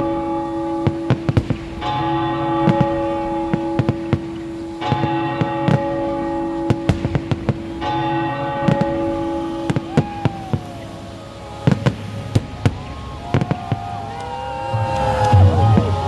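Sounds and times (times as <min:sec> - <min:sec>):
firework bangs: 0:00.0 - 0:16.0
whistling firework tones: 0:00.0 - 0:16.0.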